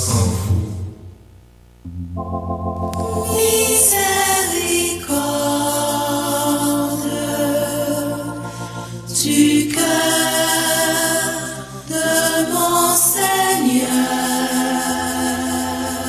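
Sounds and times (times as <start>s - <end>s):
choir singing a hymn: 3.0s - 16.0s.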